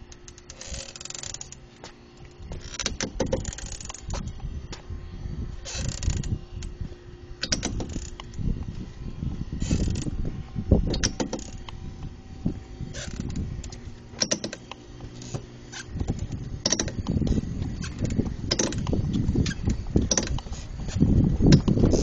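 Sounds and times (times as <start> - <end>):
wheel grinding creaks: 0.0 - 4.5, 5.6 - 6.7, 7.4 - 8.8, 9.6 - 22.0.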